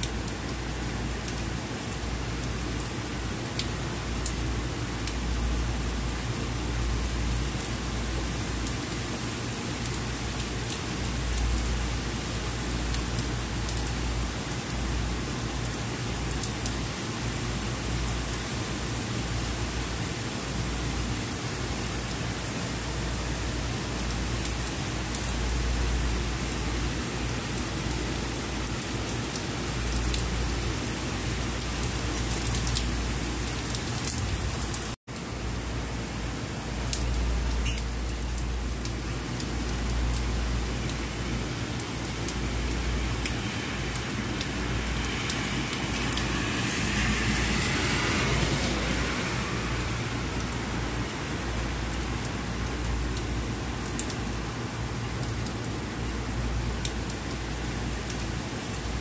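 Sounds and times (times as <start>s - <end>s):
rain on a street: 0.0s - 59.0s.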